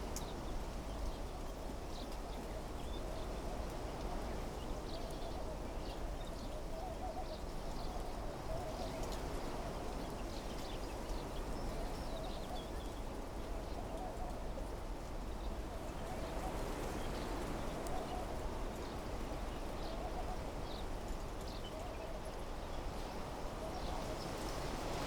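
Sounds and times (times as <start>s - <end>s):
wind through trees: 0.0s - 25.0s.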